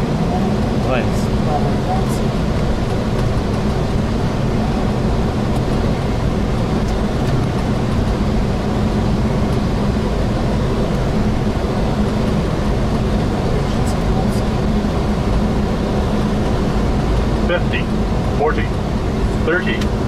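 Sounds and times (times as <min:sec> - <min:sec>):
aircraft engine noise: 0:00.0 - 0:20.0
cockpit airflow: 0:00.0 - 0:20.0.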